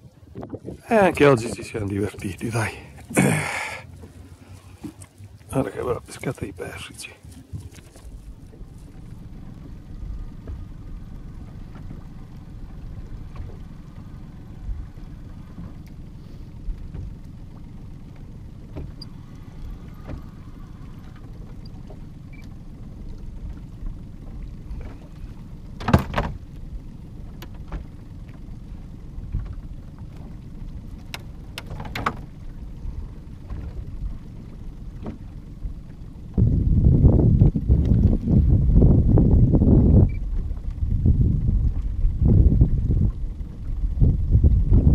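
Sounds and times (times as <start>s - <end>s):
wind and water rumble: 0.0s - 44.9s.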